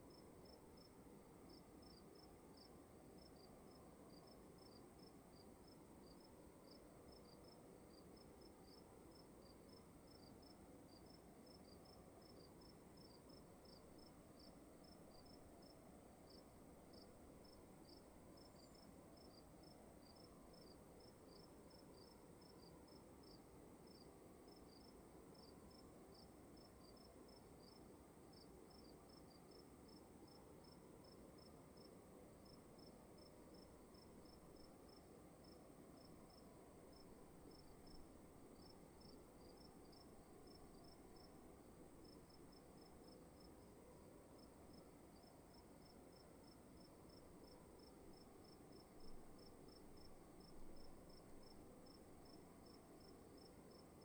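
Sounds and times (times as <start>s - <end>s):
crickets chirping: 0.0s - 54.0s
low room hiss: 0.0s - 54.0s.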